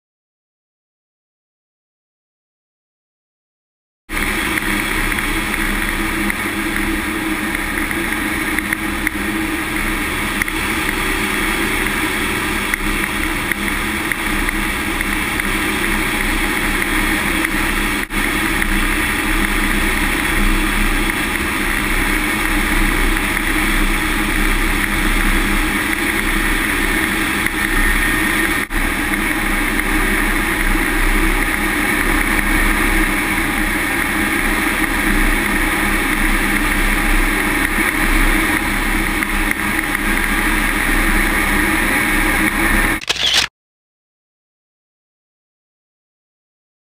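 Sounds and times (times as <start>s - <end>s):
jet engine: 4.1s - 43.5s.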